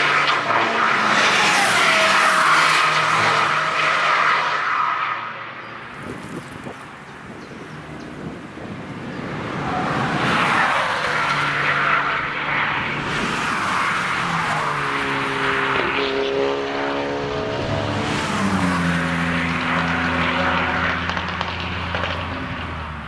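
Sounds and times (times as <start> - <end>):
race cars passing: 0.0 - 23.0.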